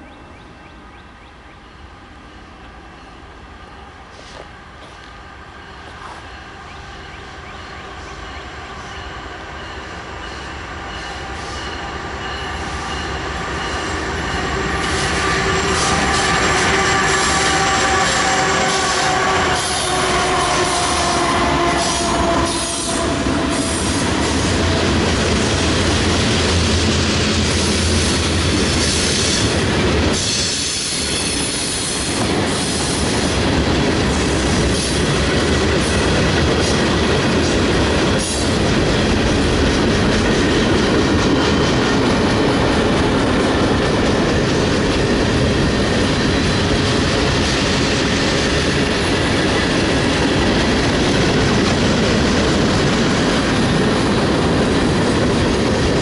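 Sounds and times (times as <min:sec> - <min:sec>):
train wheels rumbling: 0:01.6 - 0:56.0
clickety-clack over rail joints: 0:04.1 - 0:05.2, 0:05.8 - 0:06.4, 0:09.7 - 0:56.0.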